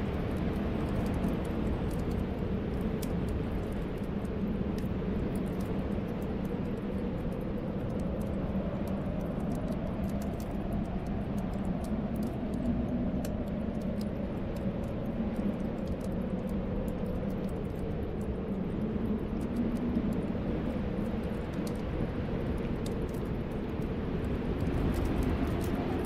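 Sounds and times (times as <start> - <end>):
wind moaning: 0.0 - 26.0
wood fire crackling: 0.0 - 26.0.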